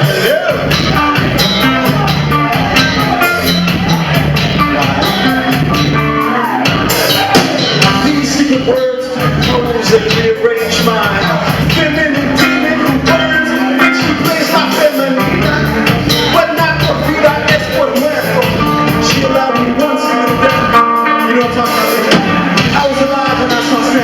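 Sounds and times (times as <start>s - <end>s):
live band music: 0.0s - 24.0s
person singing: 0.0s - 24.0s
steady drums: 0.0s - 24.0s.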